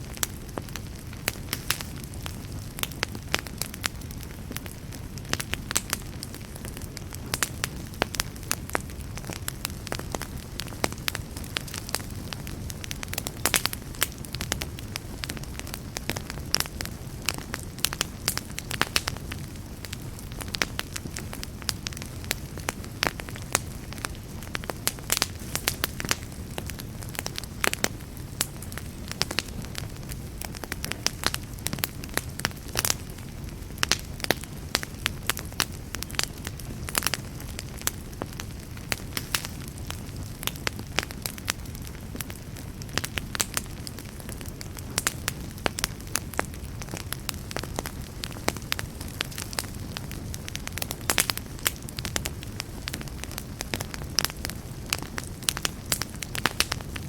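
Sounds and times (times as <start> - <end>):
fire crackling and popping: 0.0 - 57.0
rumble of campfire flames: 0.0 - 57.0.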